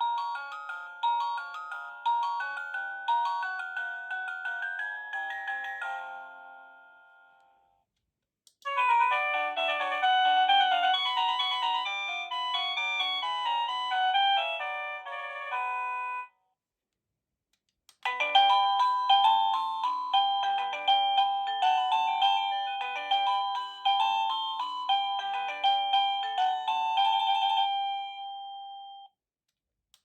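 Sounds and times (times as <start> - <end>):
electronic doorbell chime melody: 0.0 - 7.6, 9.7 - 16.3, 18.1 - 29.2.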